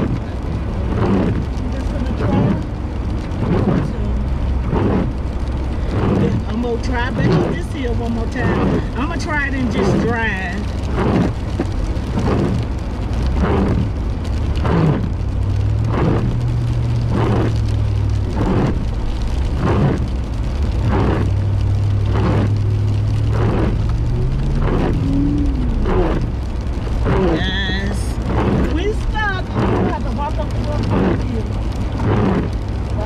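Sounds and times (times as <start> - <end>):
car engine straining: 0.0 - 33.0.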